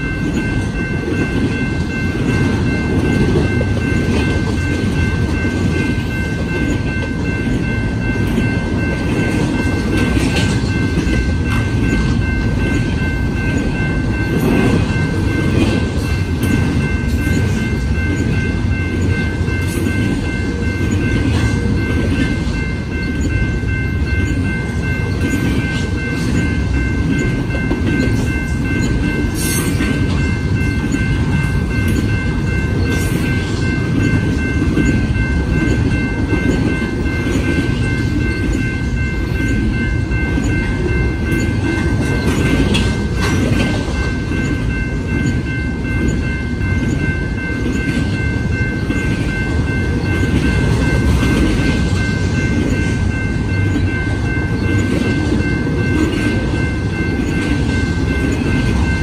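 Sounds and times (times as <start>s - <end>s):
high ringing tone: 0.0s - 59.0s
steel wheels rumbling on rail: 0.0s - 59.0s.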